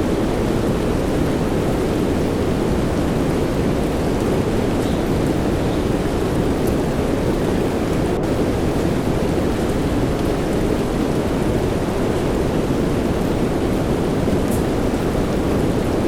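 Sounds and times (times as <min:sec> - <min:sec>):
soft rain: 0:00.0 - 0:16.0.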